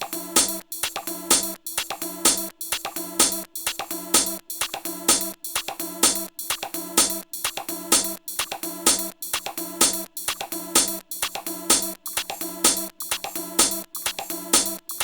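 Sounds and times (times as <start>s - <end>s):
electronic music with drum-machine beat: 0.0s - 15.0s.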